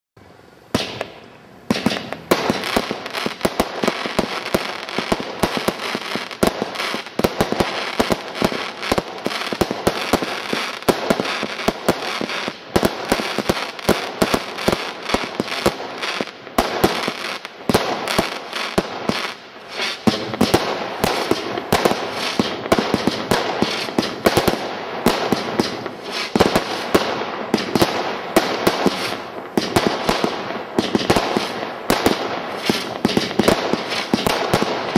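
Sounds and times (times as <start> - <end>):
fireworks firing and crackling: 0.7 - 34.9.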